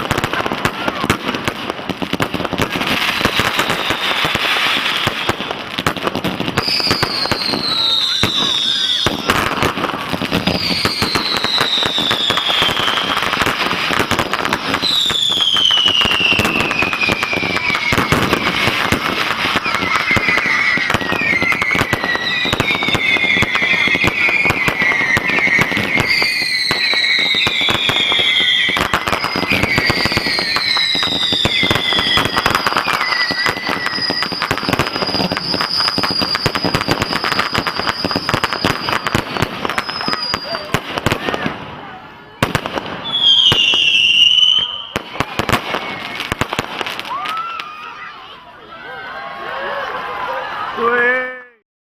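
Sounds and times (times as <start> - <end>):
fireworks bangs and crackles: 0.0 - 48.6
whistling fireworks: 0.0 - 51.0.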